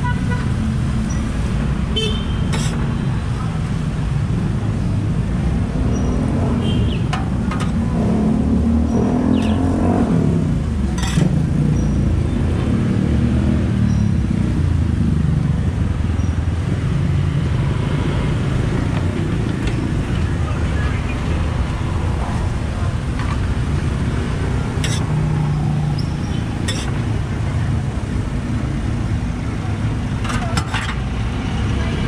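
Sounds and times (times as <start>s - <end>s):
traffic engines rumbling past: 0.0s - 32.0s.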